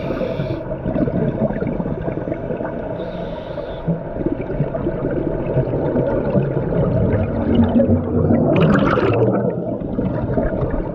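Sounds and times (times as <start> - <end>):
exhaled bubbles rushing: 0.7 - 2.9, 4.1 - 10.9.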